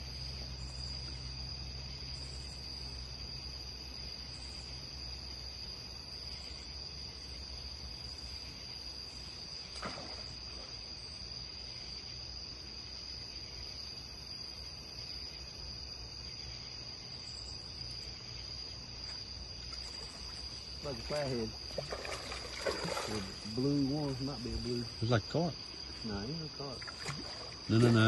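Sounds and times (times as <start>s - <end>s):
insects trilling: 0.0s - 28.0s
low steady hum: 0.0s - 28.0s.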